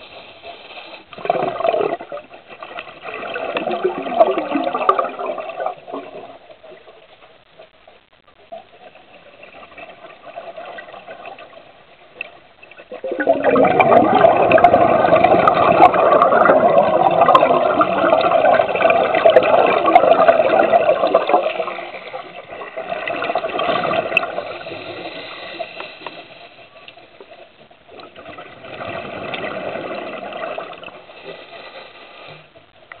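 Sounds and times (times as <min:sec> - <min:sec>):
underwater bubbles gurgling: 0:00.0 - 0:33.0.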